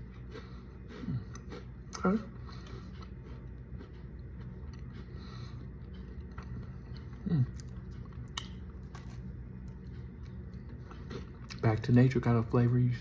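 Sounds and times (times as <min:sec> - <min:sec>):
person chewing crunchy cookie: 0:00.0 - 0:12.1.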